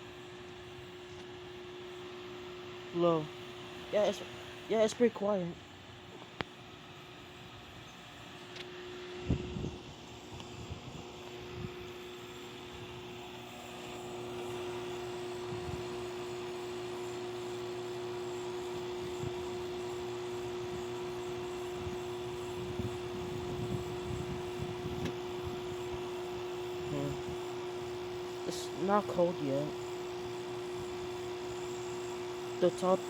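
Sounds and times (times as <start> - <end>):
air conditioner humming: 0.0 - 33.0.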